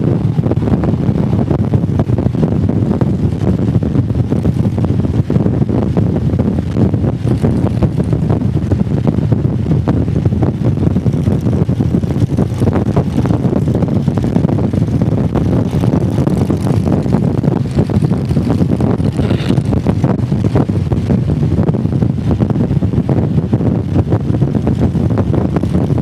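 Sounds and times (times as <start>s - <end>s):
motorcycle engine running: 0.0s - 26.0s
wind buffeting on microphone: 0.0s - 26.0s.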